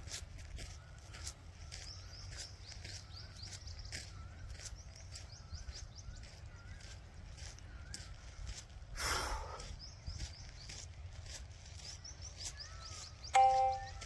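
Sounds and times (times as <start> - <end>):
footsteps walking: 0.0 - 8.8, 9.6 - 14.0
birds chirping: 0.0 - 14.0.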